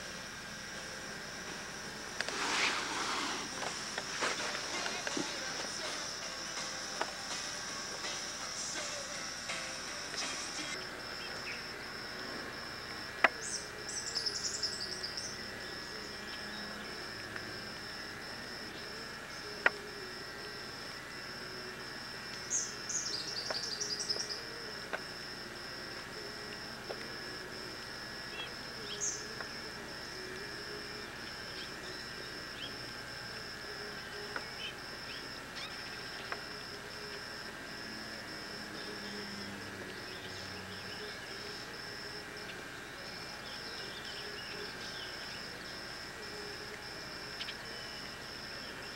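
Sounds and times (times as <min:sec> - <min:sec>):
insects trilling: 0:00.0 - 0:48.9
pulsing high buzz: 0:00.0 - 0:48.9.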